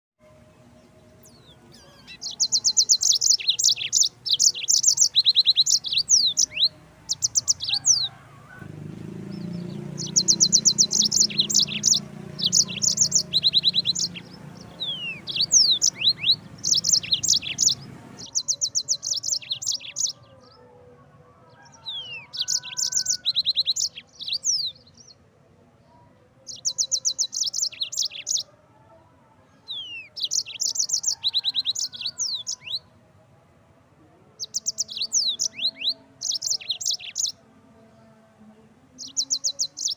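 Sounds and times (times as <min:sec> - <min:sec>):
canary singing trills: 0:00.6 - 0:20.7, 0:21.4 - 0:25.2, 0:26.3 - 0:28.6, 0:29.6 - 0:33.0, 0:34.2 - 0:37.4, 0:39.0 - 0:39.9.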